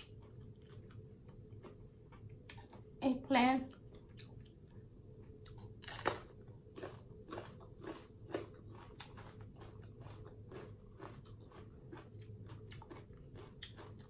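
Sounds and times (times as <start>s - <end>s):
crunching and chewing eggplant: 0.0s - 3.0s, 3.6s - 14.0s.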